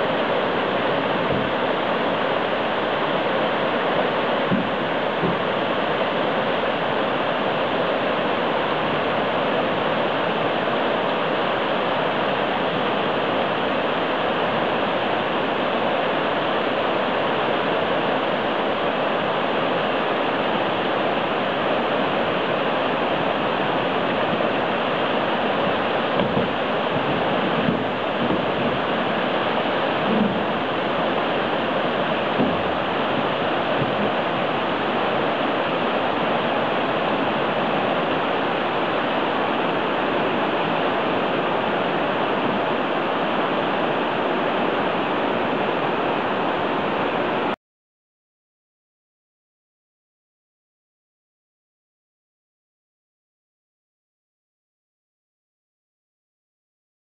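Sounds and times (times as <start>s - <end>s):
river rapids rushing over stones: 0.0s - 47.6s.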